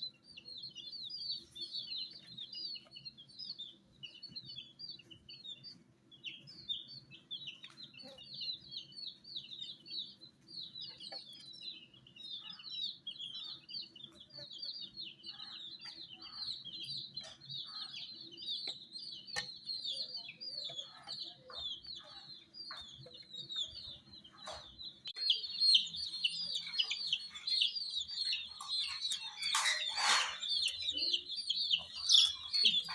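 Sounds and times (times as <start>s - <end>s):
baby chicks peeping: 0.0s - 32.9s.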